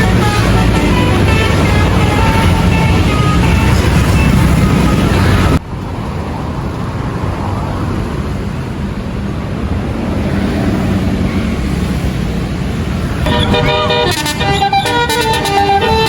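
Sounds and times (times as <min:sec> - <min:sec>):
loud roadside vehicle noise: 0:00.0 - 0:16.0
road traffic passing: 0:00.0 - 0:16.0.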